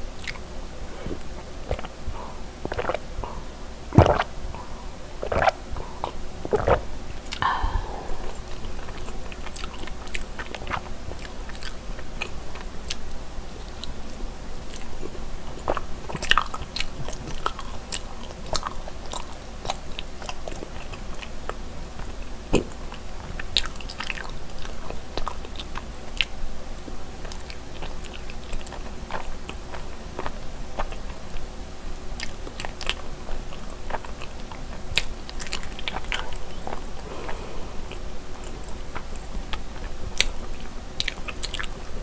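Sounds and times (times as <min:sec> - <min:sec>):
chewing with mouth clicks: 0:00.2 - 0:26.4, 0:27.1 - 0:31.5, 0:32.2 - 0:42.0.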